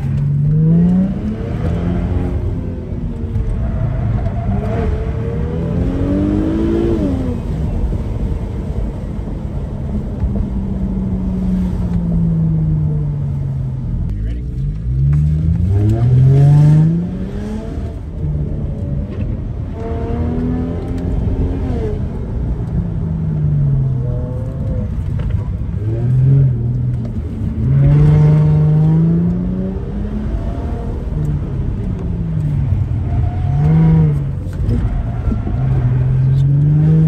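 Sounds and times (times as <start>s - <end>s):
car engine accelerating: 0.0s - 37.0s
wind and road rumble: 0.0s - 37.0s.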